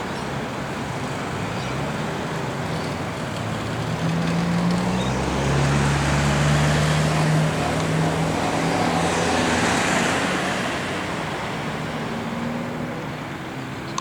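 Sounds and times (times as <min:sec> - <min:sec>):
road traffic noise: 0:00.0 - 0:14.0
vehicle engine hum: 0:00.0 - 0:14.0.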